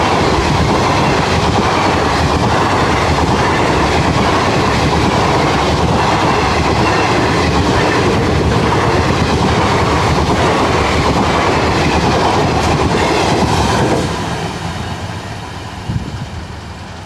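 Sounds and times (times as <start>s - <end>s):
train wheels over rails: 0.0s - 17.0s.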